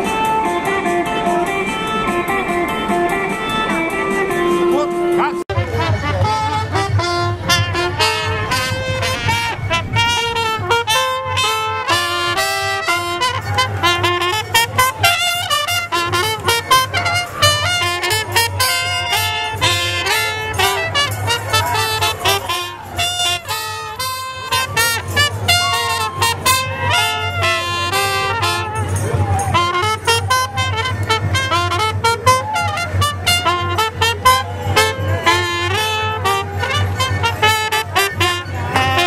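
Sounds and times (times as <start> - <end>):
two trumpets playing melody: 0.0 - 39.0.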